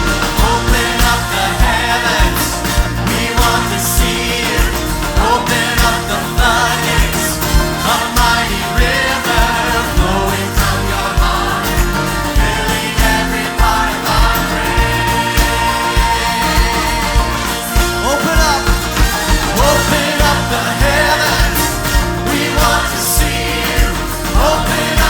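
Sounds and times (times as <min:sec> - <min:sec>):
band and orchestra accompaniment: 0:00.0 - 0:25.0
choir singing a worship song: 0:00.0 - 0:25.0
steady drum beat: 0:00.0 - 0:25.0.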